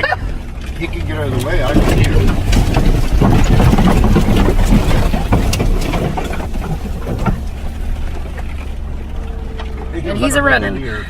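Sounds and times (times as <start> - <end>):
off-road vehicle engine rumble: 0.0 - 11.0
knocks and rattles: 0.3 - 9.9.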